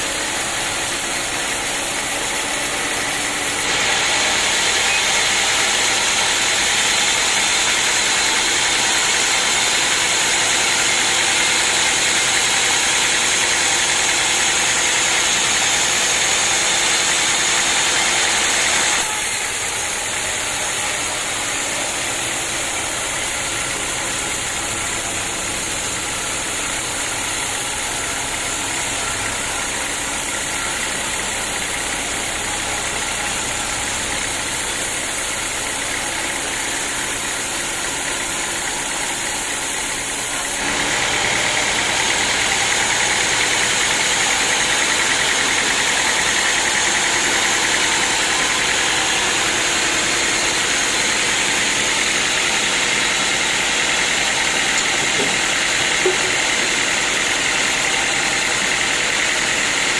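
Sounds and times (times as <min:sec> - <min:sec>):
sawmill saw cutting log: 0:00.0 - 0:59.9.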